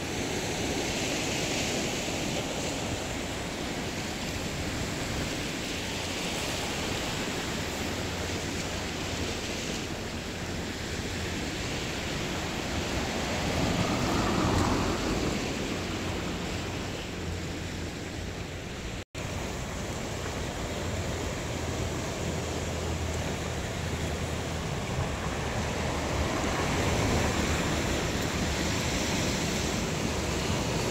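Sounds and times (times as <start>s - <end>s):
sea waves washing onto shore: 0.0s - 30.9s.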